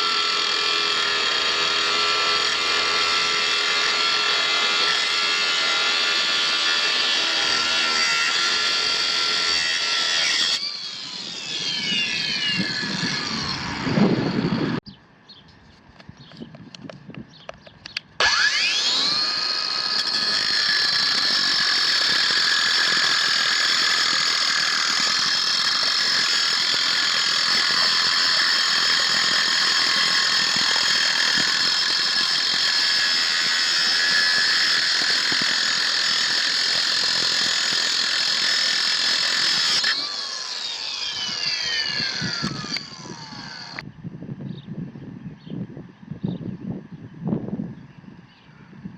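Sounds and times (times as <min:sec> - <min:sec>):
angle grinder whine: 0:00.0 - 0:14.8, 0:18.2 - 0:43.9.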